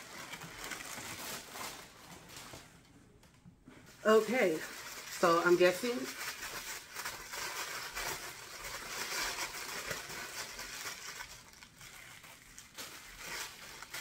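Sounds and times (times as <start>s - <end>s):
wrapping paper rustling: 0.0s - 2.9s, 3.8s - 14.0s.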